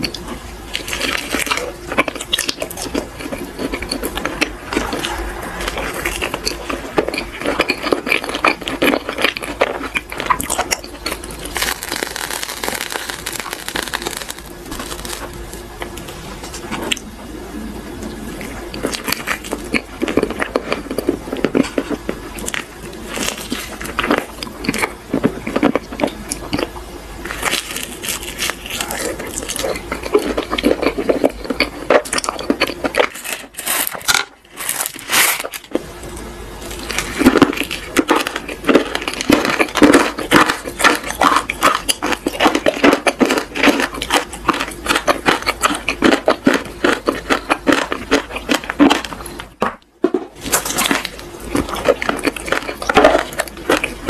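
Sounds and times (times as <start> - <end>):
close chewing and mouth sounds: 0.0 - 54.0.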